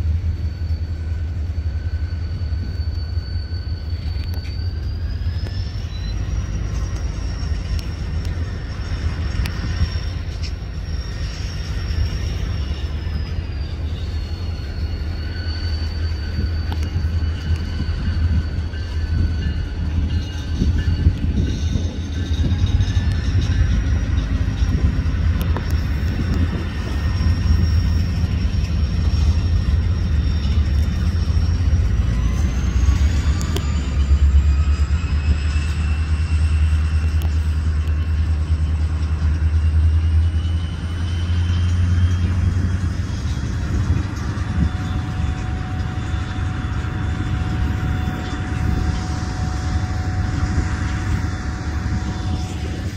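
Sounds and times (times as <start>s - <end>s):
freight train rumbling past: 0.0s - 52.9s
thin high whine: 0.0s - 52.9s.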